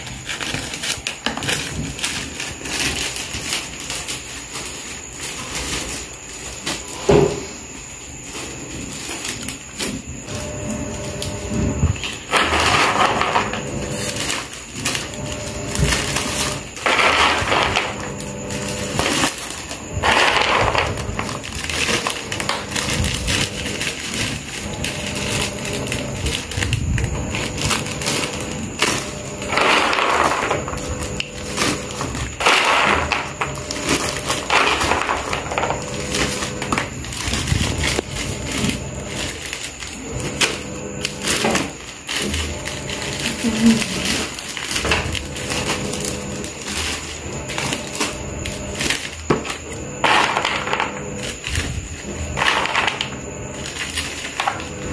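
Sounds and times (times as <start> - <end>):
crisp fried snack rattling: 0.0 - 10.1, 12.0 - 54.9
plastic bag crinkling: 0.0 - 54.9.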